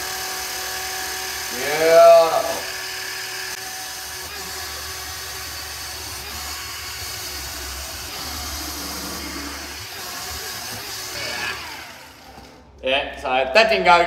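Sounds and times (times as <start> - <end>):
polisher whirring on metal: 0.0 - 12.6.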